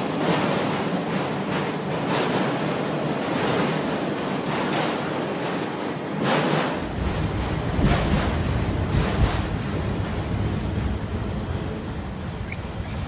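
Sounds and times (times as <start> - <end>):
freight train rolling past: 0.0 - 13.0
wheels clicking over rail joints: 0.0 - 13.0
wind buffeting microphone: 0.0 - 13.0.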